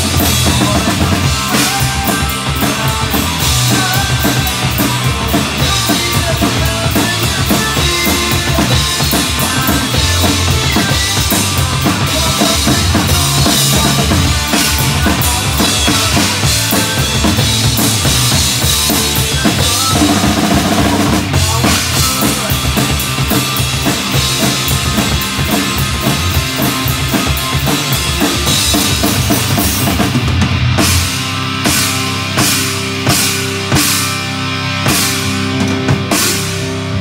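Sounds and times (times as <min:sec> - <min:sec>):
drum kit played hard: 0:00.0 - 0:37.0
punk rock music: 0:00.0 - 0:37.0.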